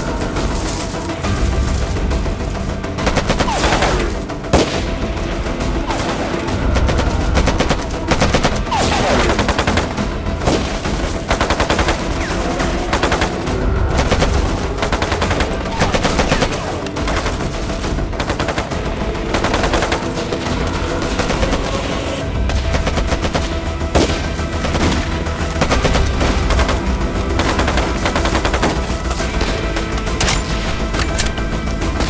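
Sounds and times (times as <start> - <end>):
rifle shots: 0.0 - 32.0
automatic machine-gun fire: 2.9 - 31.3.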